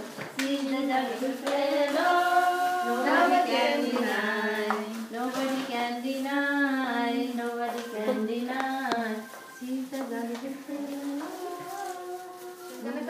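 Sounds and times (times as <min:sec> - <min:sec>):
children and women singing: 0:00.0 - 0:13.0.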